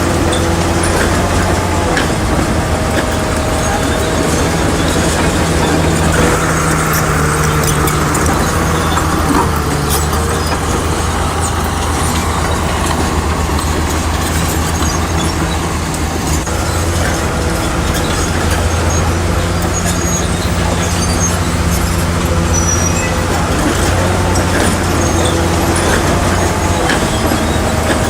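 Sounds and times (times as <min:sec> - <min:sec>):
bulldozer diesel engine: 0:00.0 - 0:28.0
high squeal: 0:00.0 - 0:28.0.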